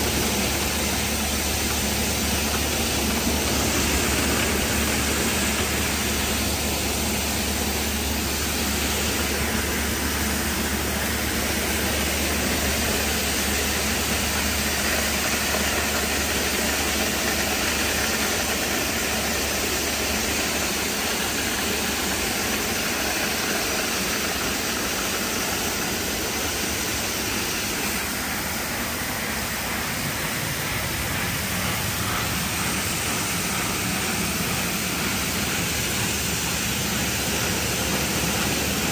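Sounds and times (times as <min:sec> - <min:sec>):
water spray hissing: 0:00.0 - 0:17.7, 0:19.0 - 0:38.9.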